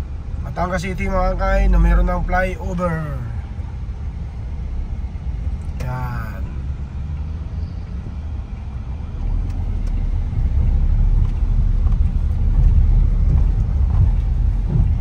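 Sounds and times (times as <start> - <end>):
road and engine rumble in vehicle: 0.0 - 15.0.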